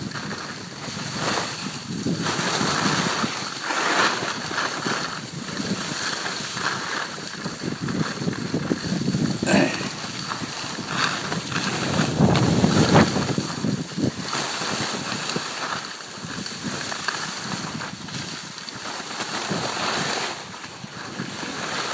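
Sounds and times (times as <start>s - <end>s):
wind on microphone: 0.0s - 18.6s
skis scraping over snow: 0.0s - 21.9s.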